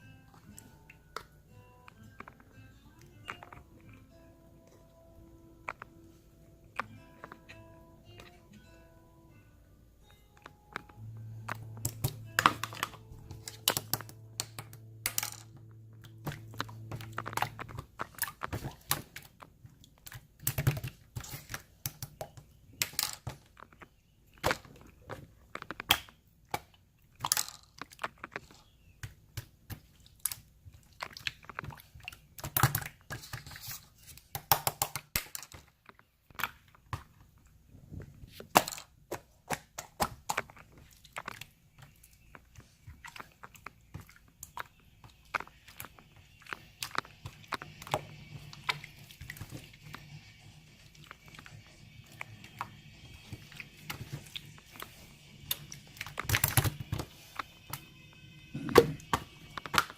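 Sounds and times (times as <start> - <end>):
slime squelching with sticky clicks: 0.2 - 8.6, 10.0 - 37.6, 38.3 - 57.9.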